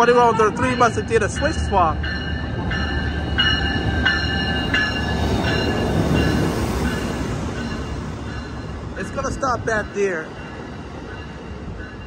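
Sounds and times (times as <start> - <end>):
train rolling low rumble: 0.0 - 12.0.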